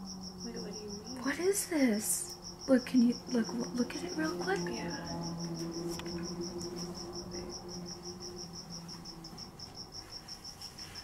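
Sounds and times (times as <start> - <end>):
cricket chirping: 0.0 - 11.0
low steady hum: 0.0 - 11.0.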